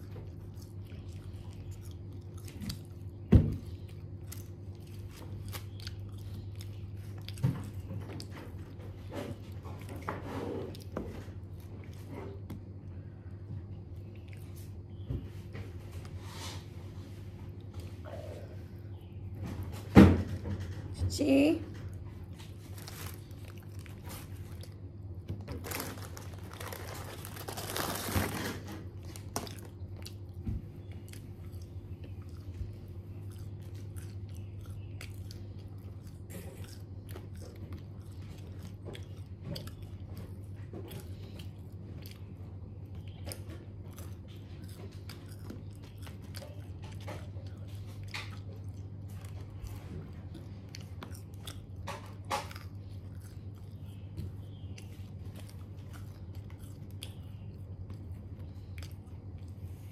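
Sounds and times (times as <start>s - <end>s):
chewing and crunching food: 0.0s - 59.9s
steady low hum: 0.0s - 59.9s.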